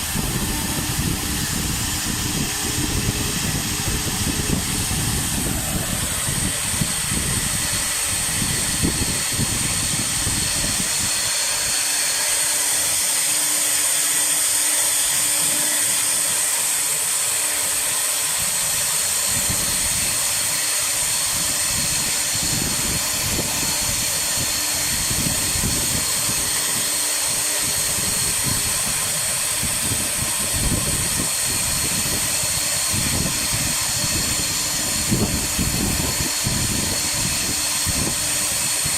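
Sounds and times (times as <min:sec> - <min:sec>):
bit carving wood low rumble: 0:00.0 - 0:38.9
cooling fan hiss: 0:00.0 - 0:38.9
router spindle high whine: 0:00.0 - 0:38.9.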